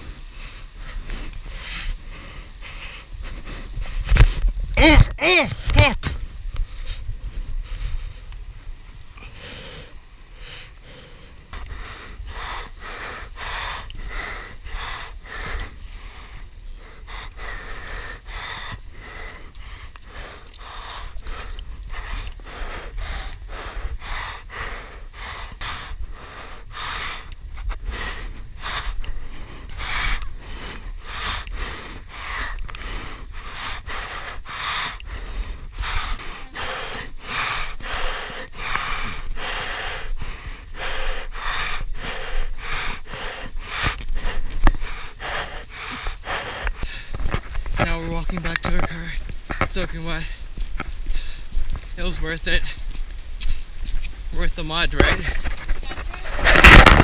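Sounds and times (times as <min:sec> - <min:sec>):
person breathing hard: 0:00.0 - 0:08.4, 0:09.0 - 0:57.0.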